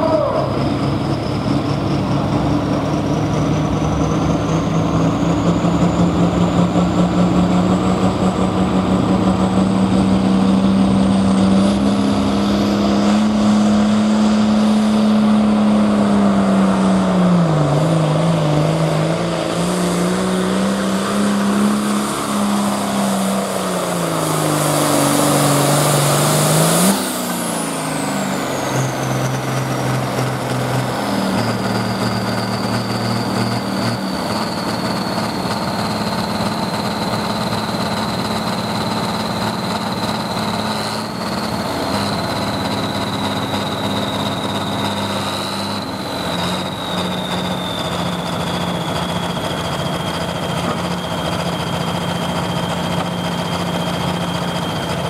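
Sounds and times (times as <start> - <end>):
diesel tractor engine: 0.0 - 55.0
turbocharger whine falling: 0.0 - 55.0.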